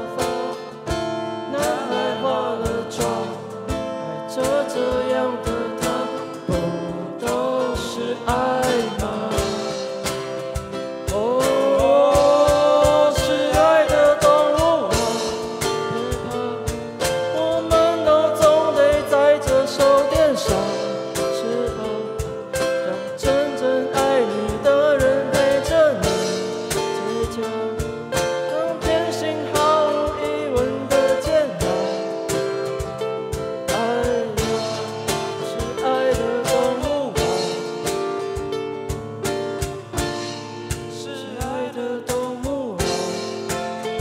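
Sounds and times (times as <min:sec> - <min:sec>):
man singing into microphone: 0:00.0 - 0:38.1, 0:40.4 - 0:44.0
plucked acoustic guitars: 0:00.0 - 0:44.0.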